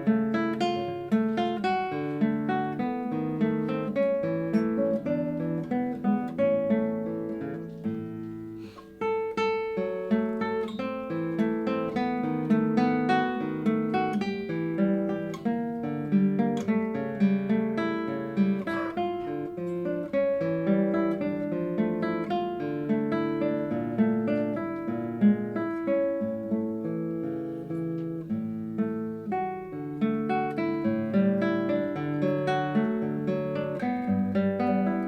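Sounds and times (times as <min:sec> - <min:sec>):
fingerpicked classical guitar: 0:00.0 - 0:35.0.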